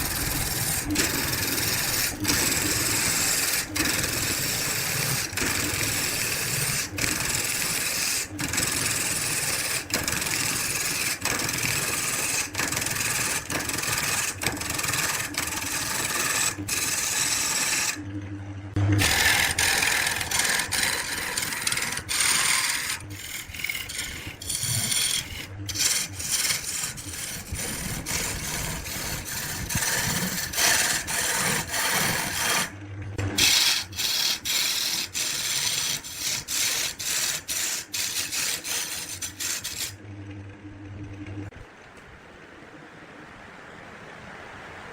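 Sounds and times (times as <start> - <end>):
lathe tool scraping wood: 0.0 - 18.0, 19.0 - 40.0.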